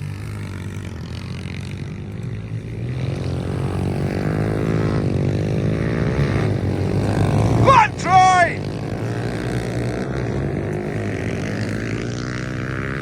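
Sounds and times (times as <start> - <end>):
pit bike engines revving: 0.0 - 13.0.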